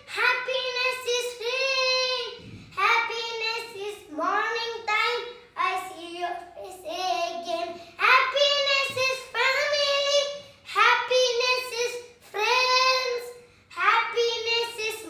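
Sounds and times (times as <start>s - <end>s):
boy singing: 0.0s - 15.0s.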